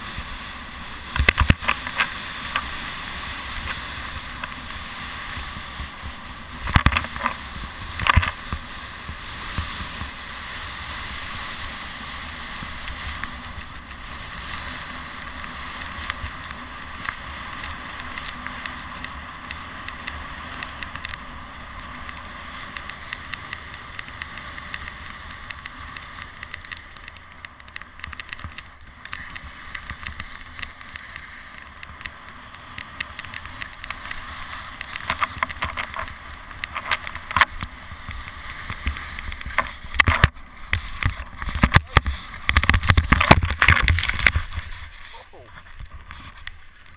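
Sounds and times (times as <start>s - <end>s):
skis scraping over snow: 0.0s - 46.9s.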